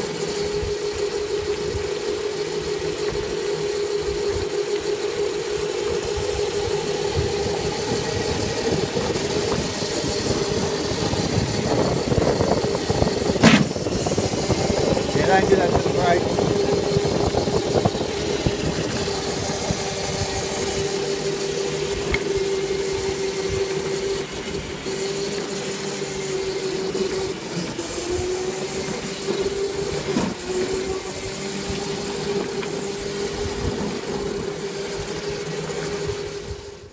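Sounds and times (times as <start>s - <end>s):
electric motor whine: 0.0s - 36.9s
wheels rolling on paving: 0.0s - 36.9s.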